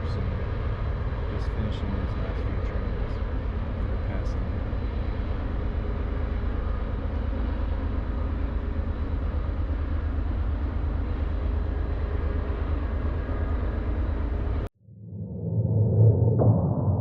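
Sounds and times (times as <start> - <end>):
freight train rumbling past: 0.0 - 14.7.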